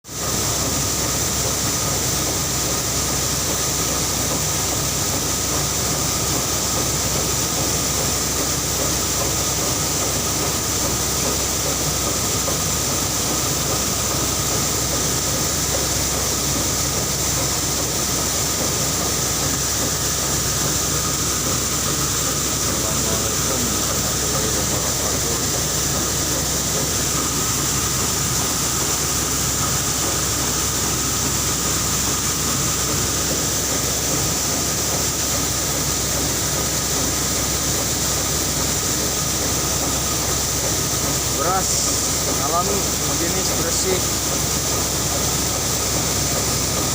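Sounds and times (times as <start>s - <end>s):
milling machinery running: 0.1s - 46.9s.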